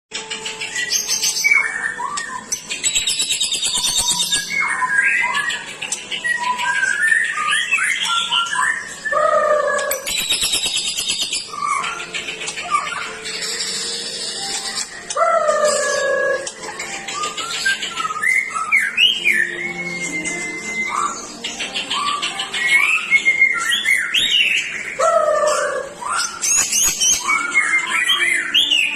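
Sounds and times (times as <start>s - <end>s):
songbird singing trills and whistles: 0.2s - 28.9s.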